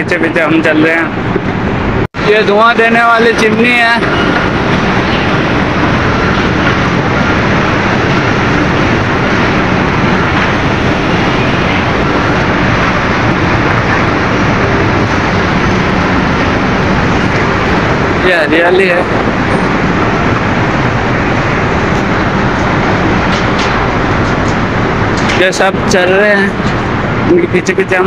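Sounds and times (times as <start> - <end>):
machinery roaring: 0.0 - 28.0.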